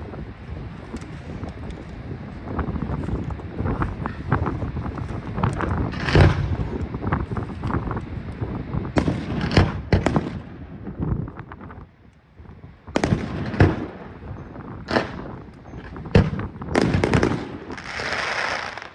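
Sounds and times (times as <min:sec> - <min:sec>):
fireworks bursting bangs: 0:00.0 - 0:11.8, 0:12.9 - 0:18.9.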